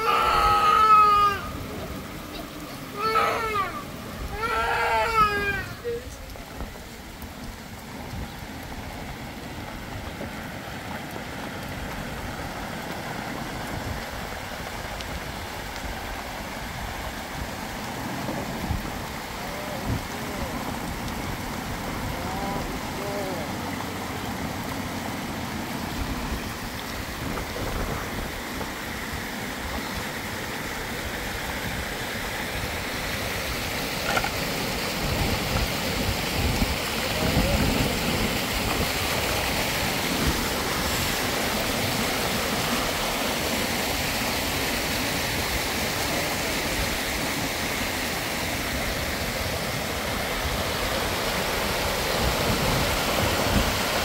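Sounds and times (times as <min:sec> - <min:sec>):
runoff water rushing: 0:00.0 - 0:54.0.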